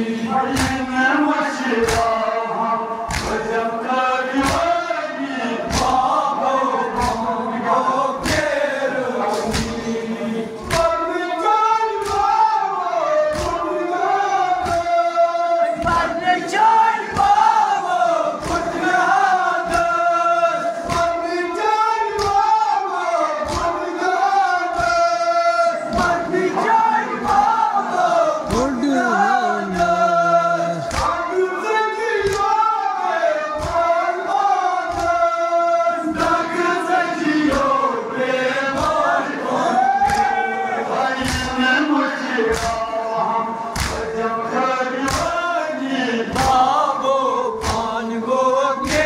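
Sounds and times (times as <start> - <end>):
men chanting a lament: 0.0 - 49.0
rhythmic chest-beating strikes: 0.0 - 49.0.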